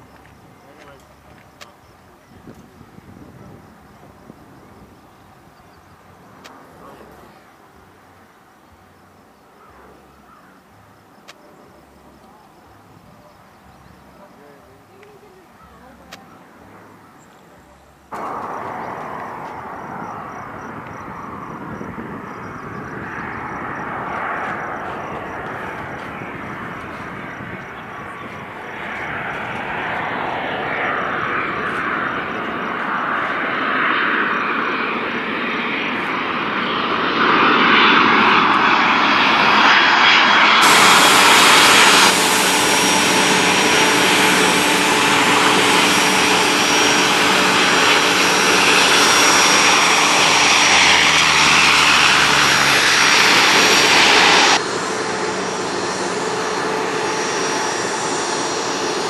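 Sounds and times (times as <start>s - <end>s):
jet engines passing with whine: 0.0s - 59.0s.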